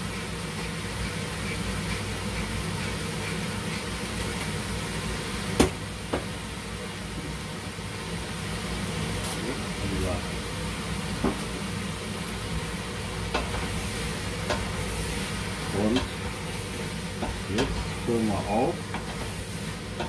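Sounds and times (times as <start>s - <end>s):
vegetables cooking in pot: 0.0s - 20.0s.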